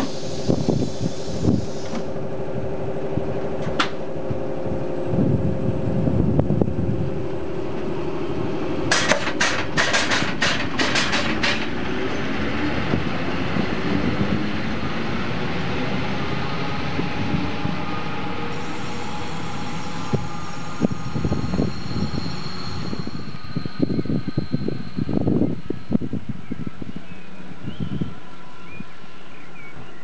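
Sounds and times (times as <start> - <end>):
electric train humming: 0.0 - 30.0
train pulling away: 0.0 - 30.0.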